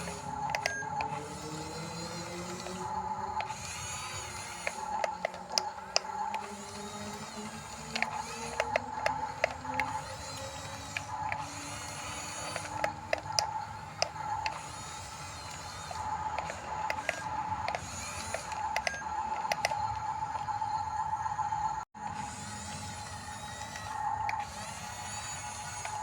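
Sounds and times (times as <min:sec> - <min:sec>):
sharp mechanical clicks: 0:00.0 - 0:20.7, 0:22.2 - 0:26.0
electric motors whining: 0:00.0 - 0:26.0.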